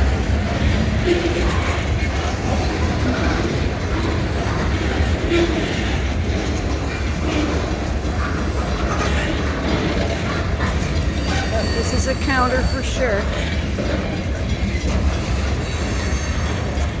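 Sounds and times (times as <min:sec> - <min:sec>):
freight train rolling on rails: 0:00.0 - 0:17.0.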